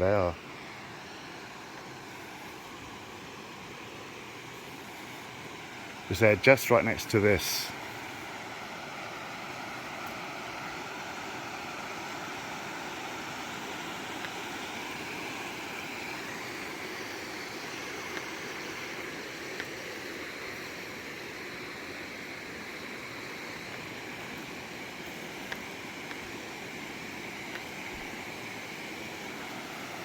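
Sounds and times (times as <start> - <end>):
river water rushing: 0.4 - 30.0.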